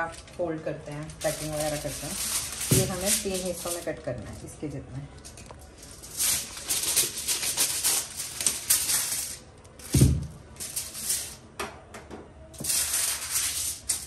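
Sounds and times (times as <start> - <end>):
aluminium foil crinkling: 0.0 - 11.4, 12.6 - 14.0.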